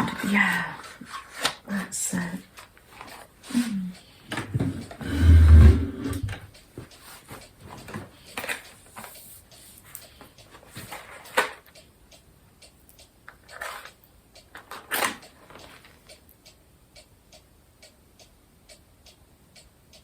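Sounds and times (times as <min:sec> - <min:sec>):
clock ticking: 0:00.0 - 0:20.0.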